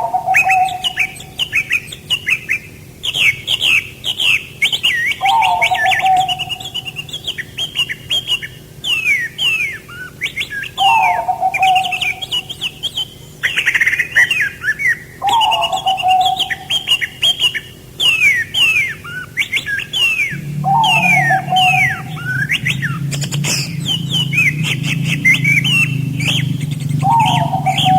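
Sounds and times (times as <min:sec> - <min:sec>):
low drawn-out bird call: 0:00.0 - 0:27.9
songbirds chirping and singing: 0:00.0 - 0:27.9.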